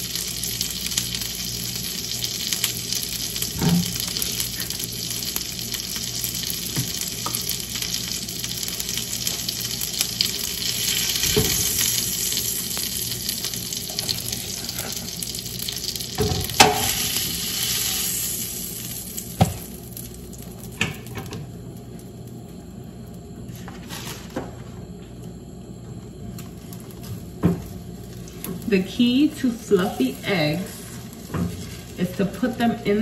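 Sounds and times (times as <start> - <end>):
eggs sizzling in a frying pan: 0.0 - 22.2, 26.3 - 33.0.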